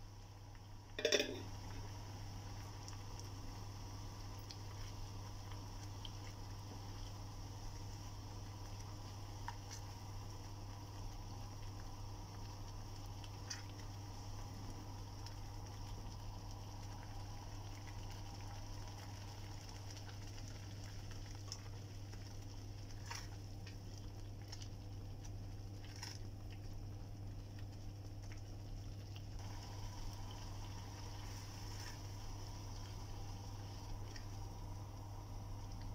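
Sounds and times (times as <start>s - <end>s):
curry simmering in a pan: 0.0s - 35.9s.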